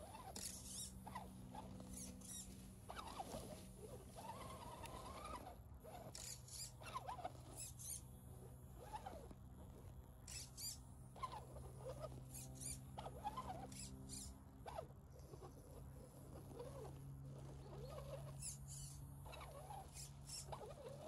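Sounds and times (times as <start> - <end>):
light high squeaks: 0.0 - 8.1, 8.8 - 21.0
faint steady hum: 0.0 - 21.0
toy car motor whining: 0.0 - 21.0.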